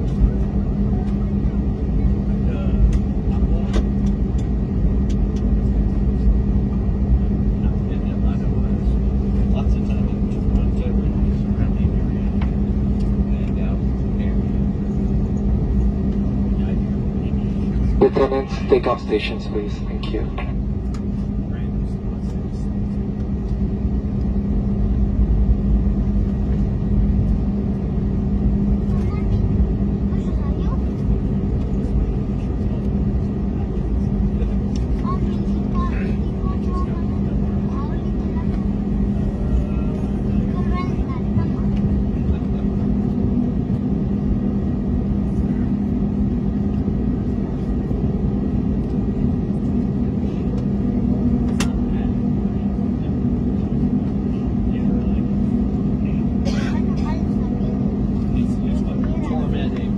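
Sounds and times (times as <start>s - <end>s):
jet engine rumble in cabin: 0.0s - 59.9s
steady low hum: 0.0s - 59.9s.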